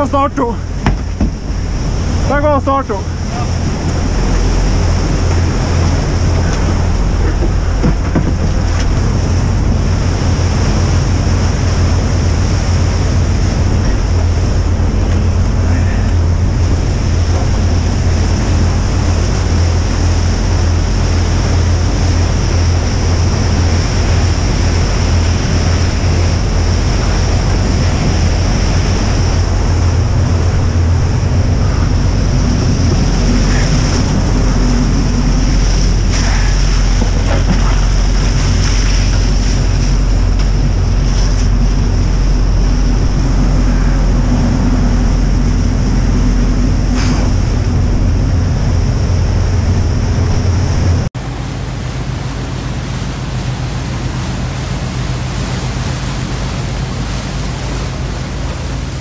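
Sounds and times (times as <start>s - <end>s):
boat engine drone: 0.0s - 59.0s
water rushing along hull: 0.0s - 59.0s
wind buffeting microphone: 0.0s - 59.0s.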